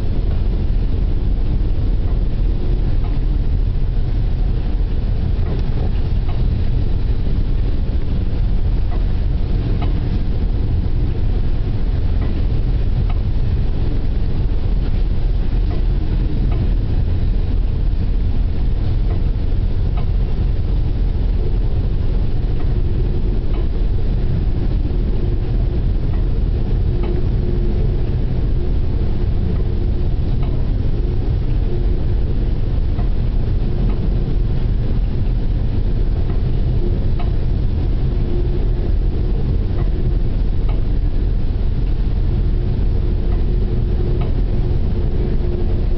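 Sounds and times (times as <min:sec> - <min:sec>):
low rumble aboard ship: 0:00.0 - 0:45.9.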